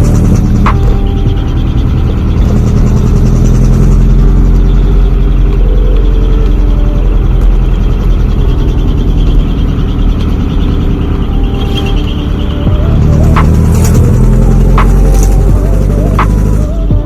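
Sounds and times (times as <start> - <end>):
loud diesel truck exhaust: 0.0 - 17.0.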